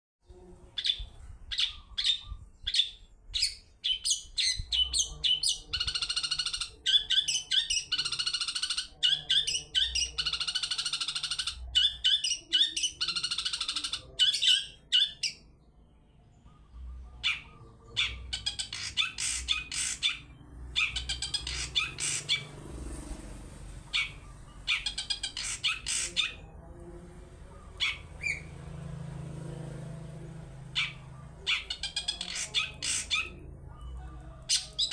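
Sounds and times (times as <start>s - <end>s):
shrike calling: 0.8s - 15.5s, 16.4s - 22.6s, 23.8s - 26.7s, 27.3s - 28.8s, 30.6s - 34.9s.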